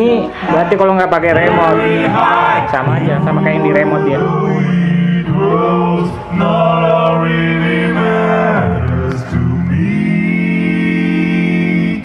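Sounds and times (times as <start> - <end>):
deep bass note: 1.2 - 12.0
man singing song over speakers: 1.2 - 12.0.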